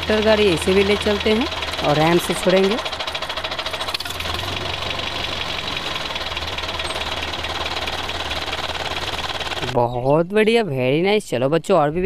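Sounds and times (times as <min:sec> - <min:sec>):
tractor engine chugging idle: 0:00.0 - 0:09.8.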